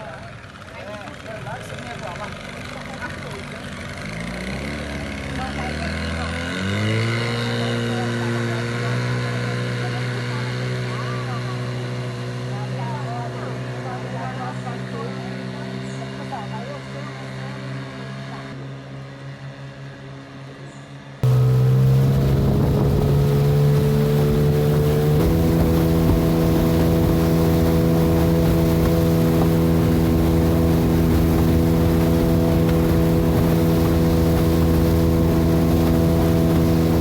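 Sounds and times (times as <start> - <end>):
boat motor drone: 0.0 - 37.0.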